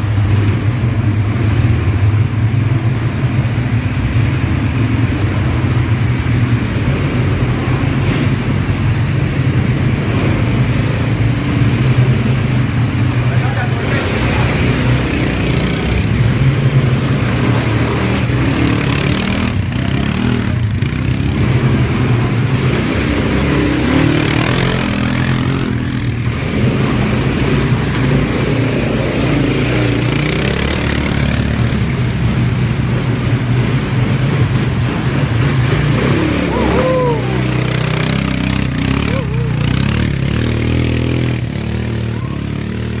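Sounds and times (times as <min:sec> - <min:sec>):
quad bike engines droning: 0:00.0 - 0:43.0.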